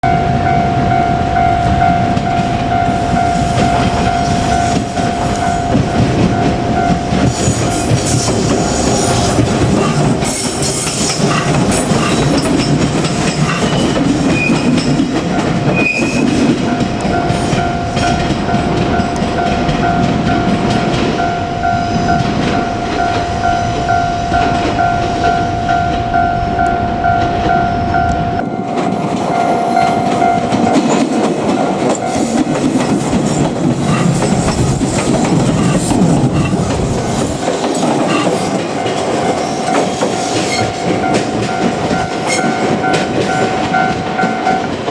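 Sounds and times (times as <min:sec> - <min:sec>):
level-crossing alarm ringing: 0:00.0 - 0:44.9
train wheels clattering on rails: 0:00.0 - 0:44.9.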